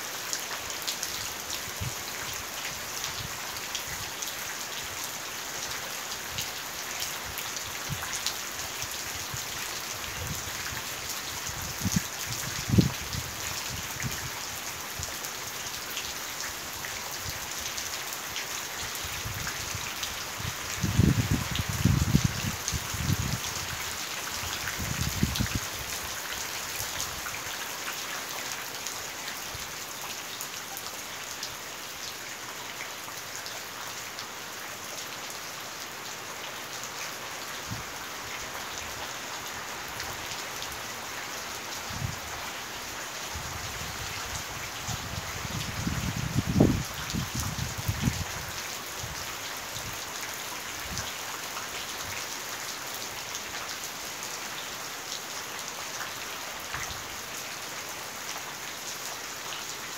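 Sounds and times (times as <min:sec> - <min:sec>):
rain pattering on wet ground: 0:00.0 - 0:59.9.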